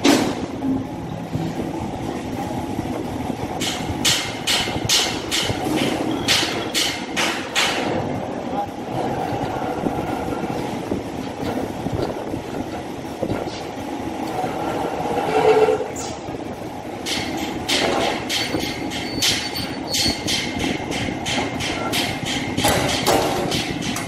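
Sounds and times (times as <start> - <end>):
metal shear running rumble: 0.0 - 24.0.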